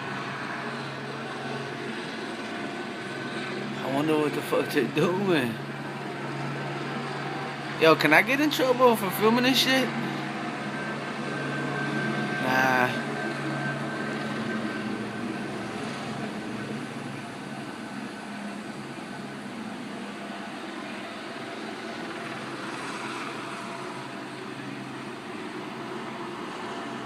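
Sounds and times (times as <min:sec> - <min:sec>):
helicopter rotor and engine drone: 0:00.0 - 0:27.0.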